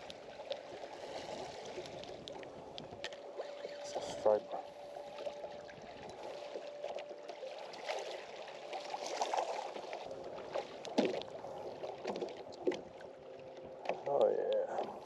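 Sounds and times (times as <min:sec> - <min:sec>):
water splashing against boat hull: 0:00.0 - 0:15.0.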